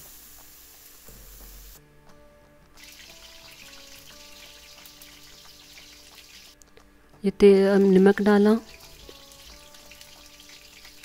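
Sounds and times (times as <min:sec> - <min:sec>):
onion and tomato sizzling in oil: 0:00.0 - 0:01.8, 0:02.8 - 0:06.6, 0:07.8 - 0:11.0
soft background music: 0:00.0 - 0:11.0.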